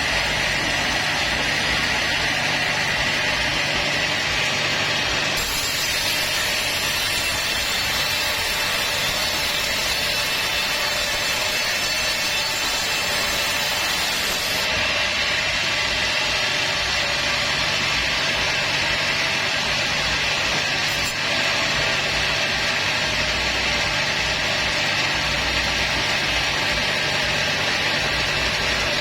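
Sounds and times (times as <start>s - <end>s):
sawmill saw cutting log: 0.0s - 29.0s.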